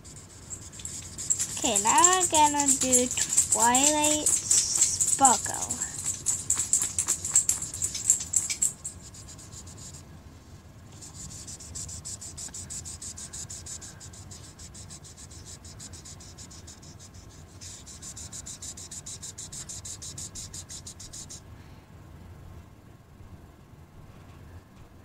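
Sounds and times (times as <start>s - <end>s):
marker scribbling on paper: 0.0s - 10.0s, 11.0s - 21.4s.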